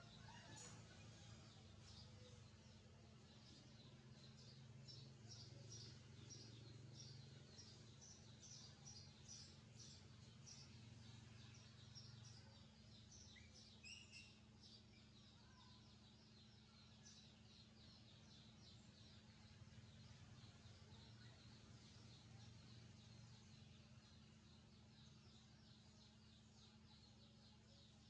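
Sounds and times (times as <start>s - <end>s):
young birds chirping: 0.0s - 28.0s.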